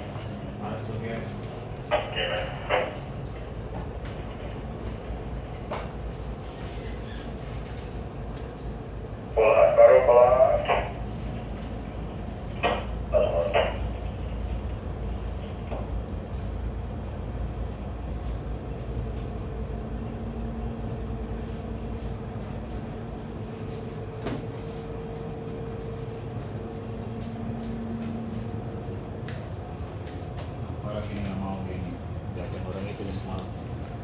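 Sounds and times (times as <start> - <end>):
steady hum: 0.0 - 6.6, 7.3 - 34.0
boat engine rumbling: 0.0 - 34.0.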